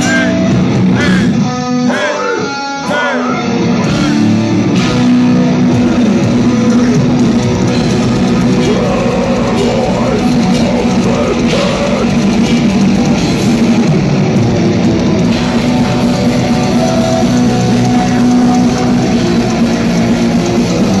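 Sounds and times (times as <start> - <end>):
live metal band playing: 0.0 - 21.0.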